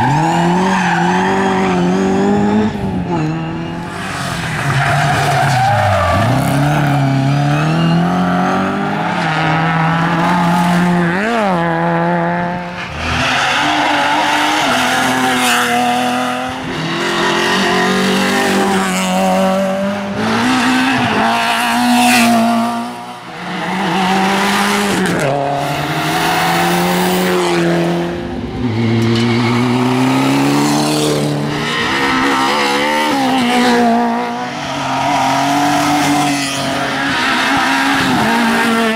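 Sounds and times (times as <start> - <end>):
rally cars passing revving: 0.0 - 38.9.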